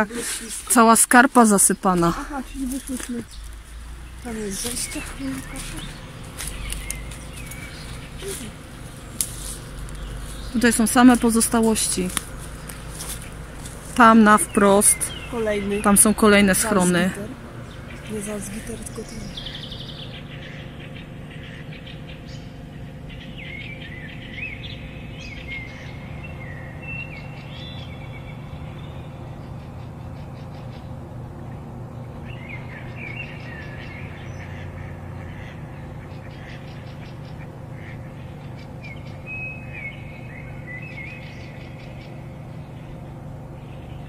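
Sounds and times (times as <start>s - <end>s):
low steady hum: 0.0s - 44.0s
songbirds warbling: 0.0s - 44.0s.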